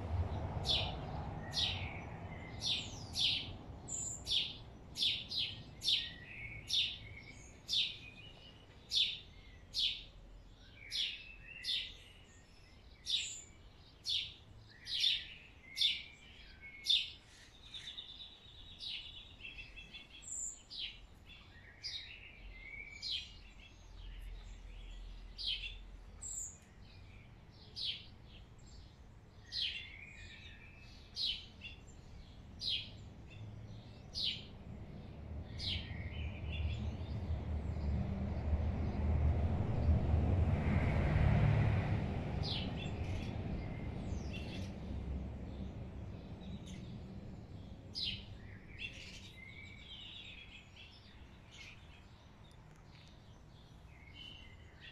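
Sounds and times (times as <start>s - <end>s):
sparrow chirping: 0.6s - 37.8s, 42.4s - 54.9s.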